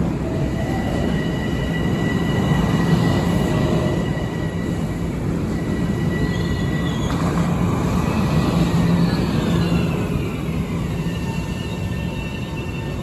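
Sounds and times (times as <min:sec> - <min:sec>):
electric train rumbling and whining: 0:00.0 - 0:13.0.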